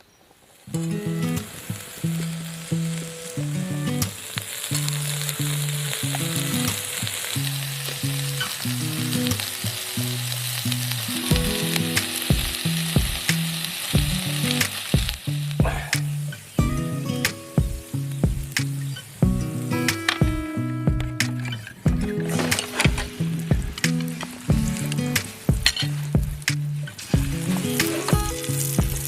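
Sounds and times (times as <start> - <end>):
food sizzling on a griddle: 0.1 - 29.0
background music: 0.8 - 14.9, 16.6 - 29.0
sharp pops: 3.9 - 29.0.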